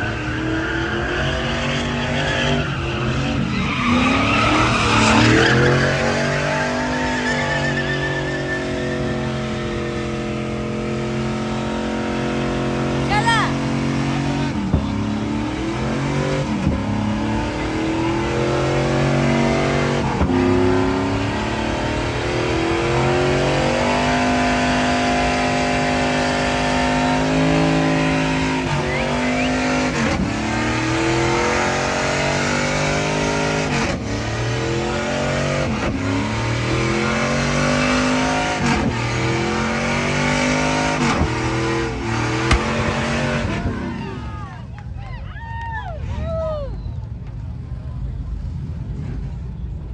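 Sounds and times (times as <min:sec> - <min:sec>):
truck engine revving: 0:00.0 - 0:44.5.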